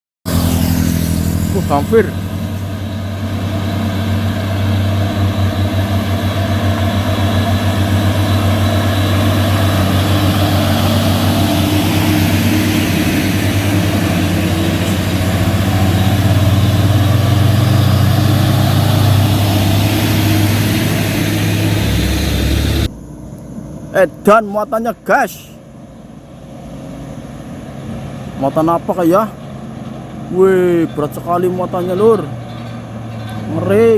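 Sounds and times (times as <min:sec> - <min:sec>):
truck diesel engine labouring: 0:00.3 - 0:22.9, 0:23.6 - 0:33.9.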